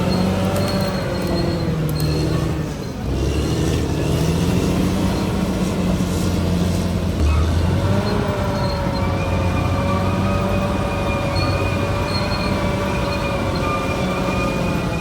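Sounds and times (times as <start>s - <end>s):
bulldozer diesel engine: 0.0s - 15.0s
steel tracks squealing: 0.0s - 15.0s.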